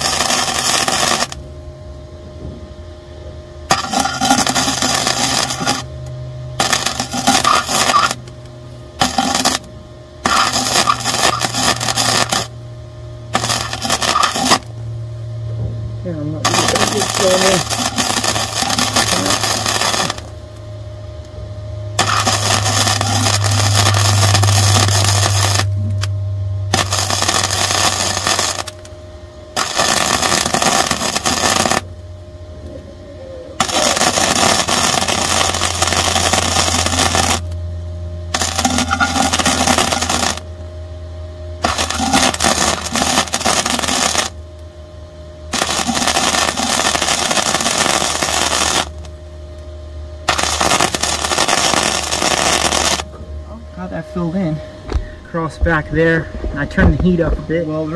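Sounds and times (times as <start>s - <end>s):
welder arc crackling and sizzling: 0.0s - 1.6s, 3.6s - 32.8s, 33.6s - 40.8s, 41.6s - 44.7s, 45.3s - 57.9s
welding machine low hum: 0.0s - 57.9s.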